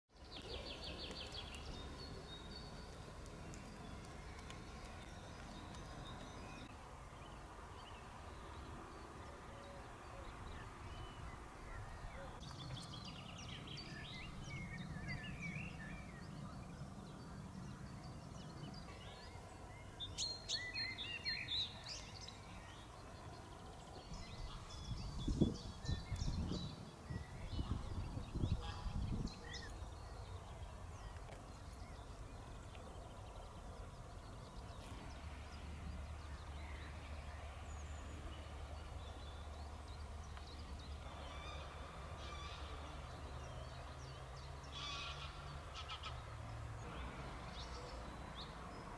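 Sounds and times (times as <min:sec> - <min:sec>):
birds calling and chirping: 0:00.2 - 0:48.9.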